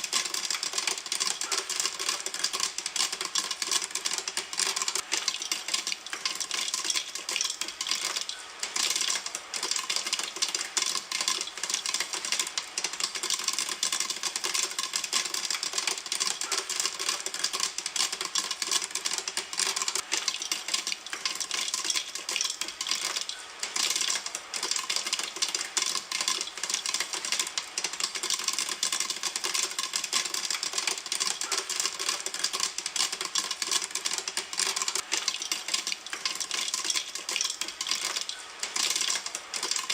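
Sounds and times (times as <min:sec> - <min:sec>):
popcorn popping in a pan: 0:00.0 - 0:39.9.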